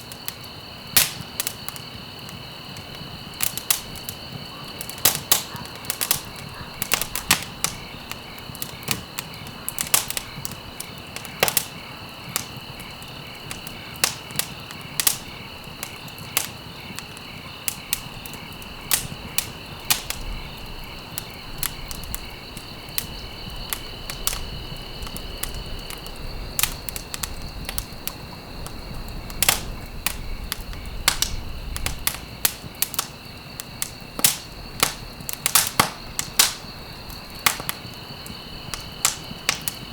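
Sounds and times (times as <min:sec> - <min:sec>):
burning wood popping: 0:00.0 - 0:39.9
campfire crackling: 0:00.0 - 0:39.9
crickets chirring: 0:00.0 - 0:39.9.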